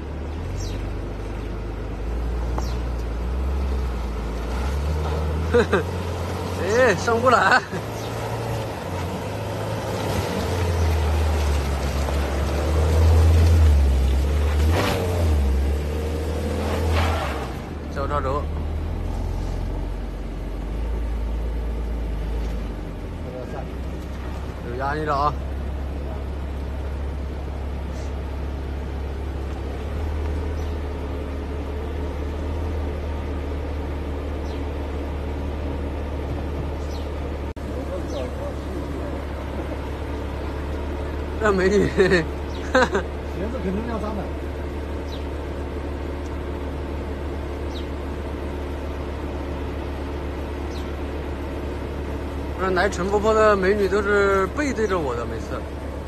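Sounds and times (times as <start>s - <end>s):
car engine pulling under load: 0.0s - 56.0s.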